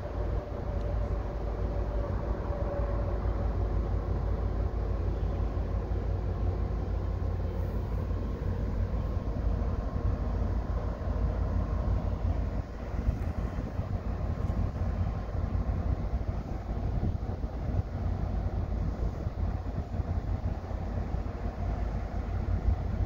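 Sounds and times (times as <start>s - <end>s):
faint steady whine: 0.0s - 23.0s
low rumble of vehicle in motion: 0.0s - 23.0s.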